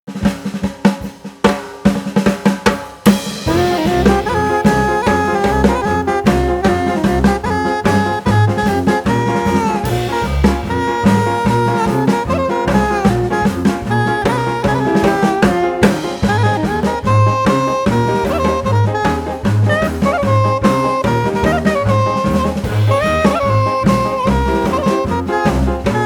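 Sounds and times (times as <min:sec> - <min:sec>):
snare and rimshot drum hits: 0:00.1 - 0:20.0, 0:20.7 - 0:26.0
band playing melody: 0:03.1 - 0:26.0.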